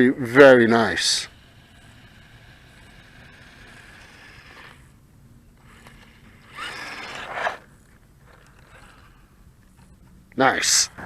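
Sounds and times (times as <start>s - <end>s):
toy truck electric motor whining: 0.0s - 11.0s.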